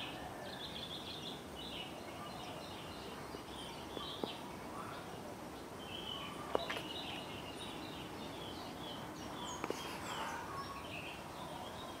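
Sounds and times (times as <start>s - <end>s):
birds calling and singing: 0.0s - 12.0s
steady background hiss: 0.0s - 12.0s.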